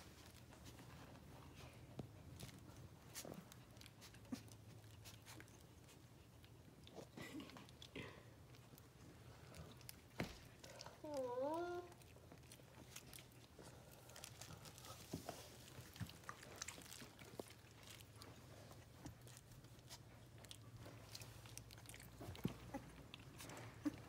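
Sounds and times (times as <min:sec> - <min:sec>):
low room hum: 0:00.0 - 0:24.0
puppies chewing toys: 0:00.0 - 0:24.0.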